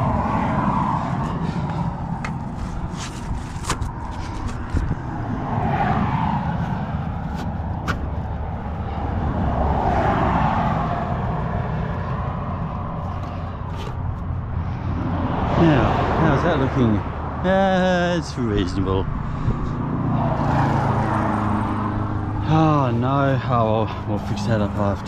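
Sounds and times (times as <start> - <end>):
highway traffic rumble: 0.0 - 25.0.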